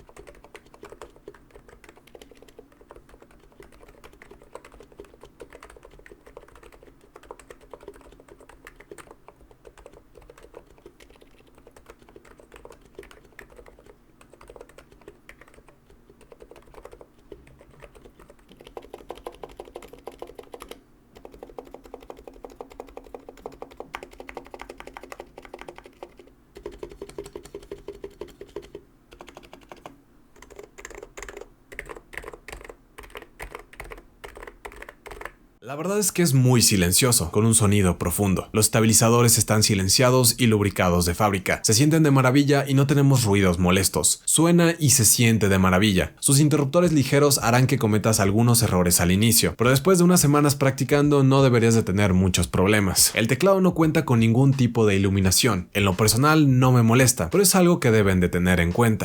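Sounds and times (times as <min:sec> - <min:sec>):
quiet keyboard typing: 0:00.0 - 0:35.4, 0:45.0 - 0:59.0.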